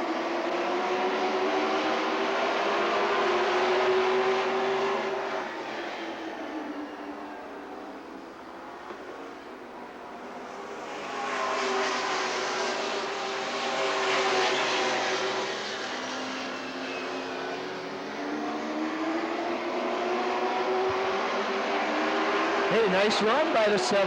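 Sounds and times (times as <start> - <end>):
racing truck engines: 0.0 - 24.0.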